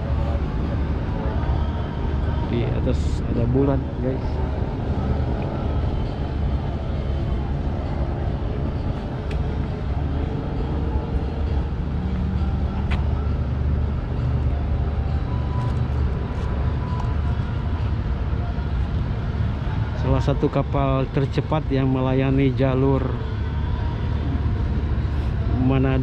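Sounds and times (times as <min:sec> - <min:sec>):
ship diesel engines rumbling: 0:00.0 - 0:26.0.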